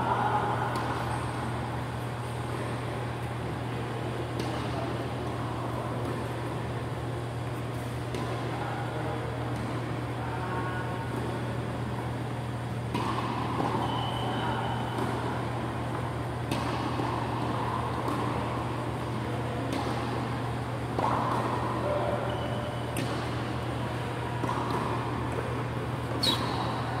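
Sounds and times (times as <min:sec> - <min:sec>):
ventilation fans humming: 0:00.0 - 0:27.0.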